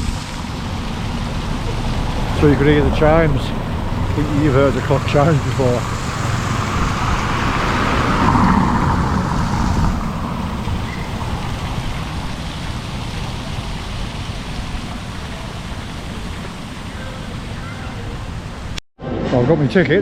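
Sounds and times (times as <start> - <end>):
road vehicle passing: 0.0 - 18.8
low rumble of street noise: 0.0 - 20.0.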